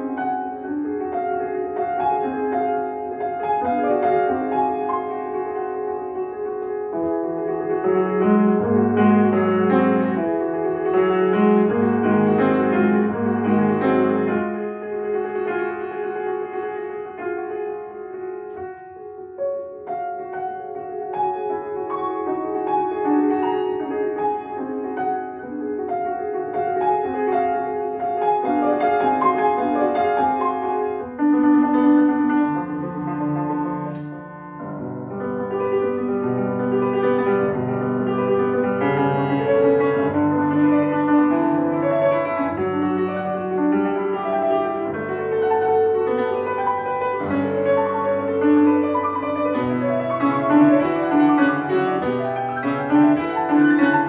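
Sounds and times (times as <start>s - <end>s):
solo classical piano: 0.0s - 54.0s.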